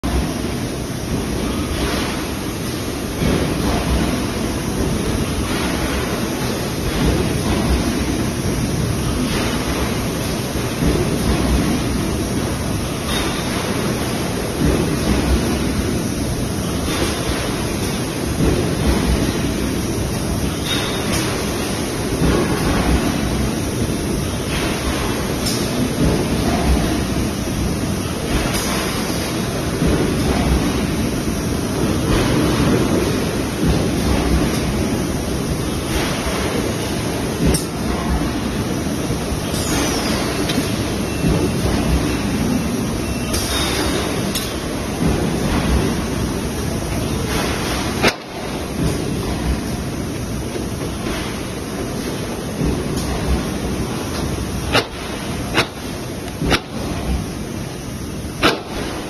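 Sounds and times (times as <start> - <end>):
bottle bagging machine rushing: 0.0 - 59.0.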